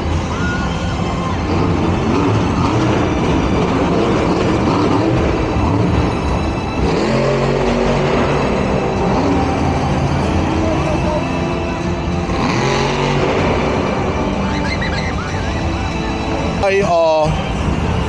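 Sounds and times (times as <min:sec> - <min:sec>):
loud truck engine revving: 0:00.0 - 0:18.0.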